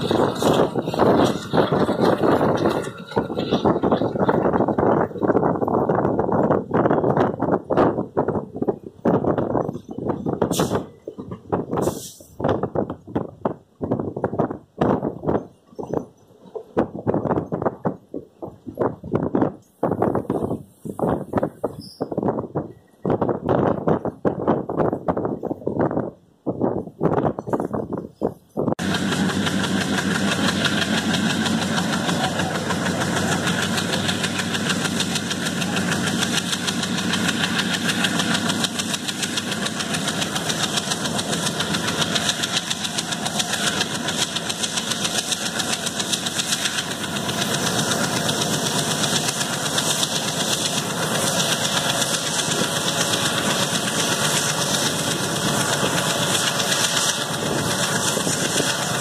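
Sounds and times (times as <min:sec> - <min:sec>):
diesel locomotive engine: 0:00.0 - 0:59.0
train running noise: 0:00.0 - 0:59.0.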